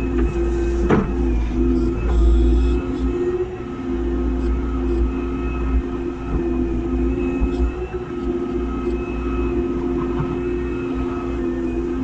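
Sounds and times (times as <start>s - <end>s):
excavator diesel engine: 0.0s - 12.0s.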